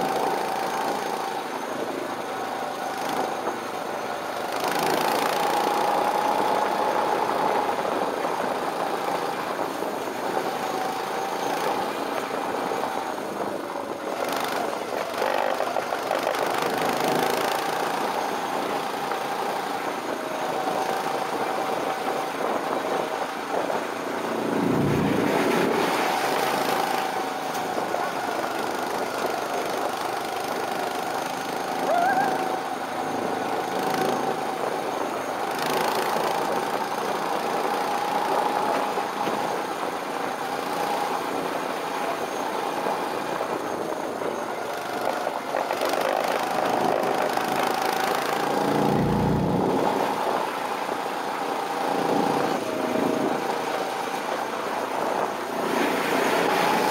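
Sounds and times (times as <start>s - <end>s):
go-kart engine running: 0.0s - 56.9s.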